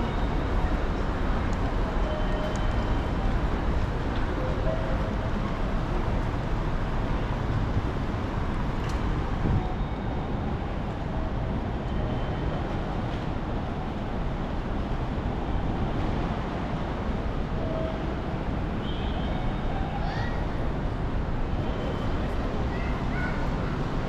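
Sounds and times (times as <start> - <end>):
traffic: 0.0 - 24.0.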